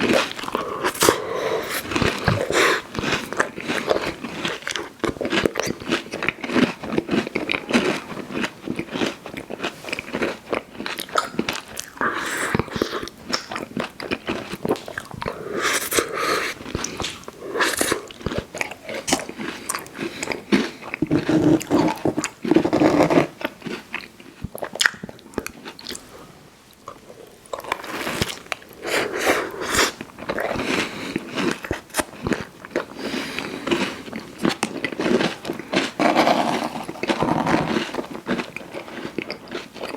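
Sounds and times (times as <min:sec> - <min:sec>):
wet chewing: 0:00.0 - 0:26.1, 0:26.7 - 0:39.9.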